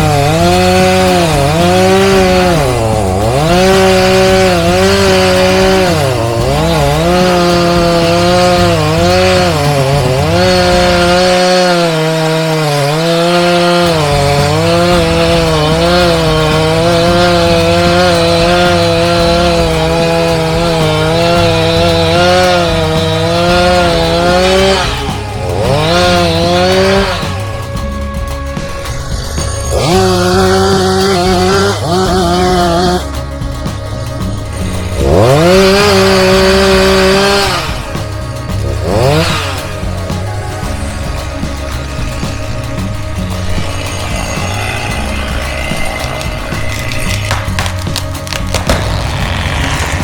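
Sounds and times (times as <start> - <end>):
chainsaw cutting wood: 0.0 - 50.0.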